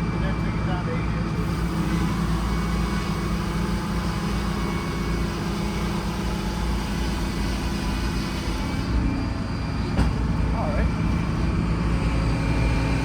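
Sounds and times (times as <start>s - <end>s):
sawmill engine humming: 0.0s - 13.0s.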